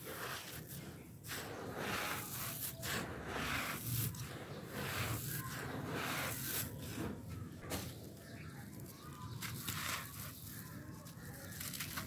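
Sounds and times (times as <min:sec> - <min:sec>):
hands crushing gritty sand: 0:00.0 - 0:12.0.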